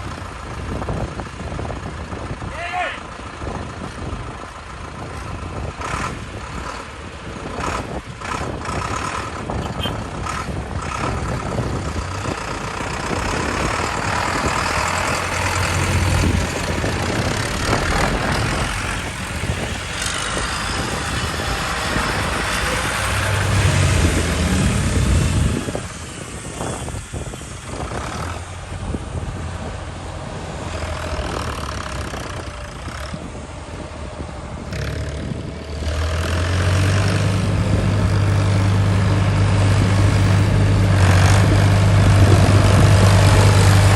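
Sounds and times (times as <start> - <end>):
tractor engines driving past: 0.0 - 43.9.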